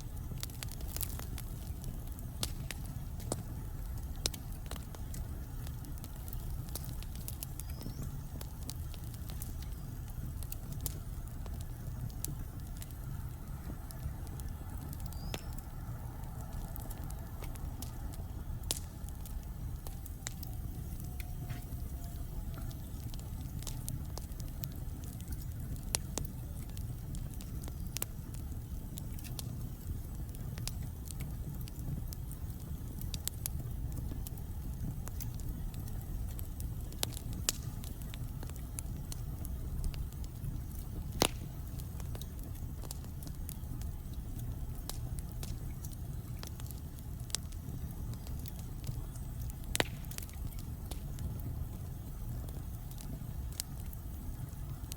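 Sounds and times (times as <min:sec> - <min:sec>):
burning logs popping: 0:00.0 - 0:54.9
low flame rumble: 0:00.0 - 0:54.9.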